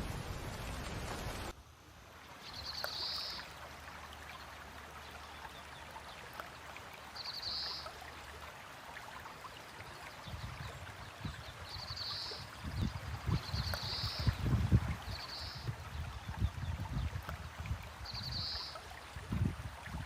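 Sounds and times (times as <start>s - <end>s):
heavy rain and running water: 0.0s - 20.0s.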